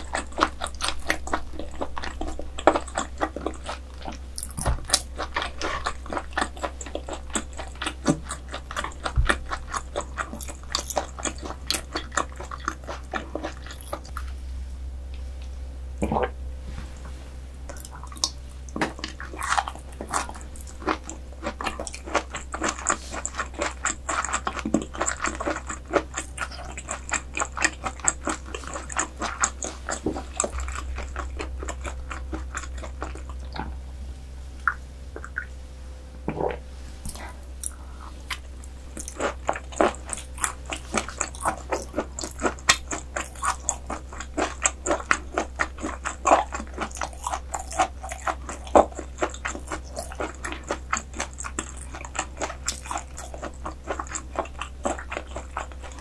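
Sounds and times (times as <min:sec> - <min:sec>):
wet chewing and mouth smacks: 0:00.0 - 0:14.3, 0:17.7 - 0:33.8, 0:34.6 - 0:35.5, 0:36.3 - 0:56.0.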